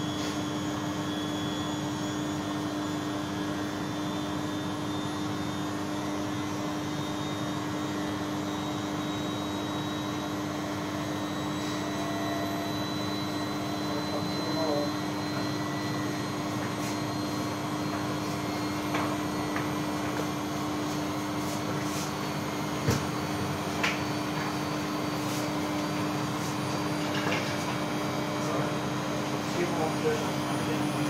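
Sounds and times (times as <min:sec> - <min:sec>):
washing machine spinning: 0:00.0 - 0:31.0.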